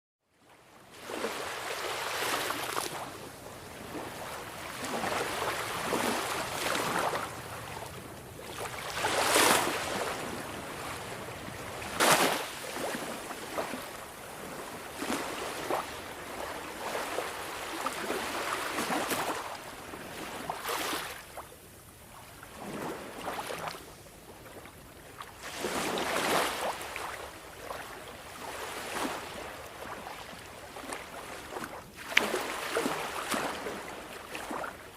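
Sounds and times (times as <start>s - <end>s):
waves washing onto shore: 0.8s - 34.9s.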